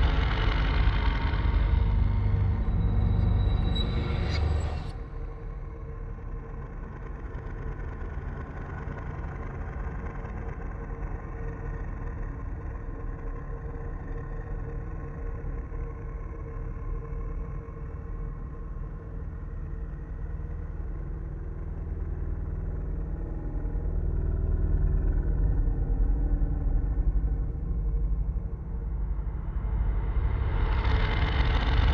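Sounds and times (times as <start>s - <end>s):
low rumbling drone: 0.0s - 31.9s.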